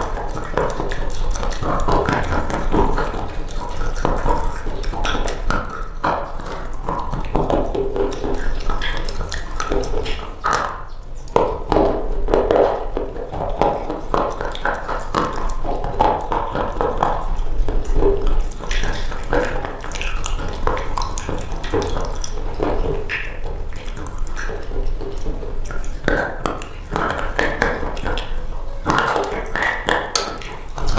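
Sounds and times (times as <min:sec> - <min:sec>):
soap crunching and crackling: 0:00.0 - 0:30.9.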